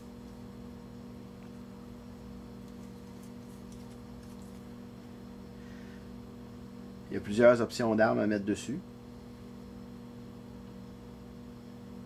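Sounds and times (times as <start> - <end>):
mains hum: 0.0 - 12.0.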